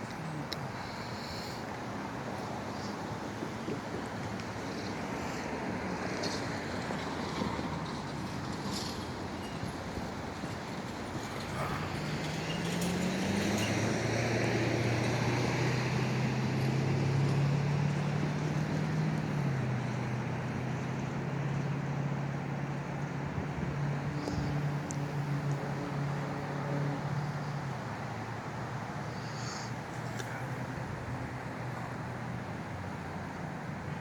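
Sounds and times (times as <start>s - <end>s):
vehicle engine hum passing: 0.0s - 34.0s.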